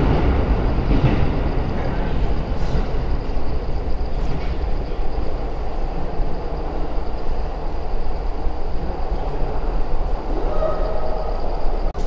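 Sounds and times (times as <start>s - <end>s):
train rumbling in a tunnel: 0.0s - 12.0s.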